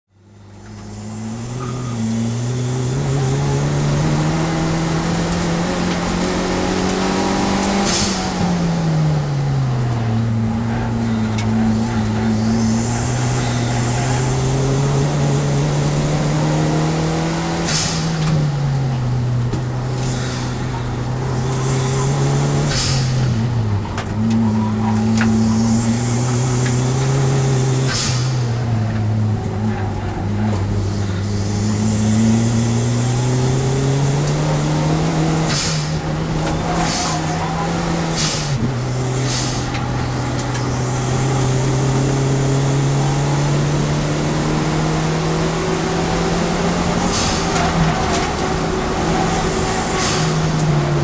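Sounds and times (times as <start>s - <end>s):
race car engine pulling hard: 0.1s - 51.0s.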